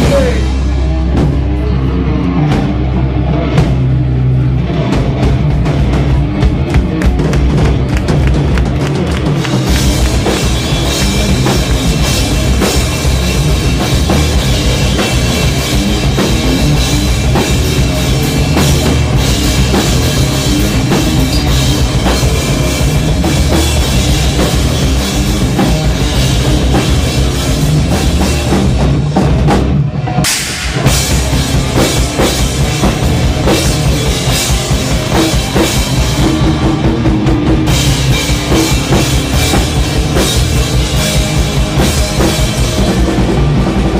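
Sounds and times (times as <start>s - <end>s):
driving drum kit: 0.0s - 43.9s
live heavy rock band: 0.0s - 43.9s.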